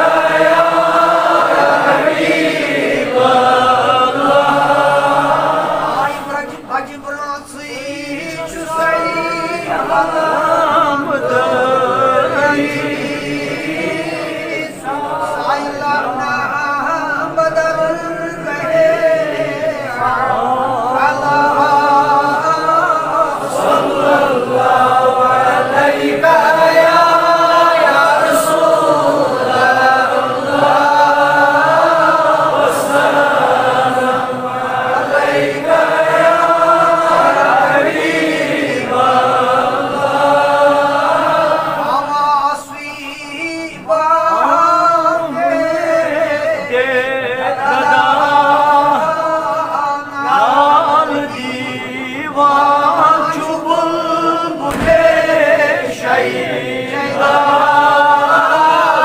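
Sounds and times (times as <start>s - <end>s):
men chanting in unison: 0.0s - 6.9s, 7.5s - 59.0s.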